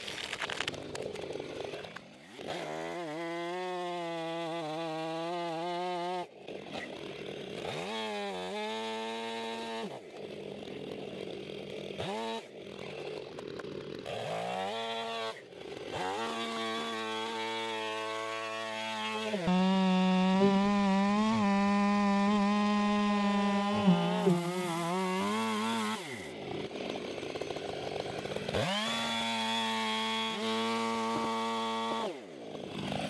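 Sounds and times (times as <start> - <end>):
chainsaw revving and idling: 0.2 - 33.0.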